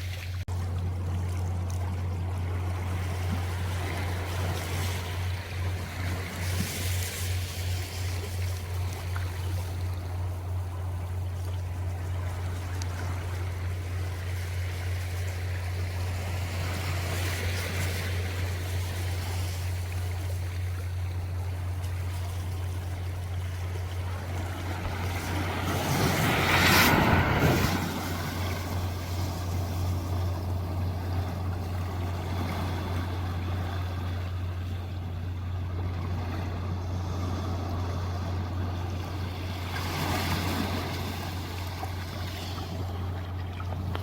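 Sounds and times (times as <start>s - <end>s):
sea waves washing in: 0.0s - 44.0s
steady low rumble: 0.0s - 44.0s.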